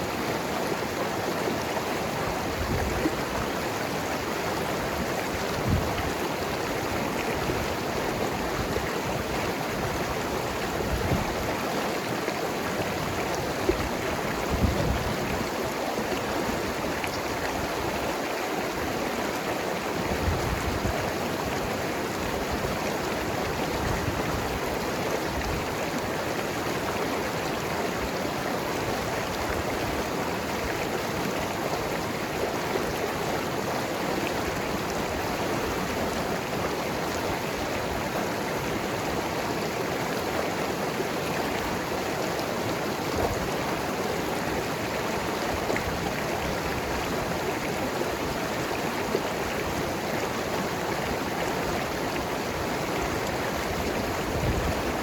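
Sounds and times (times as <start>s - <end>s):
river running over rocks: 0.0s - 55.0s.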